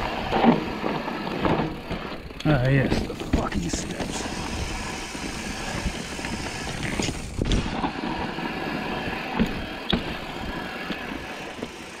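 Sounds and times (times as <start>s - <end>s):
bike knocking and rattling on rocks: 0.0s - 12.0s
bike tyres rolling on trail: 0.0s - 12.0s.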